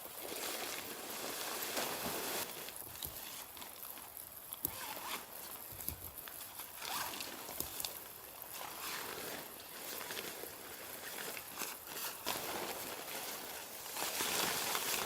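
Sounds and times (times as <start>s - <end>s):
rustling and scraping: 0.1s - 4.1s, 4.7s - 15.0s.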